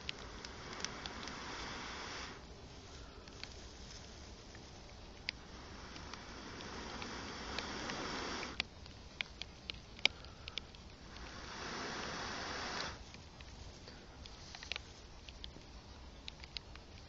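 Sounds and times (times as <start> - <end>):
rain pattering: 0.0 - 17.0
rustling: 0.0 - 17.0
sharp drips and ticks: 0.0 - 17.0.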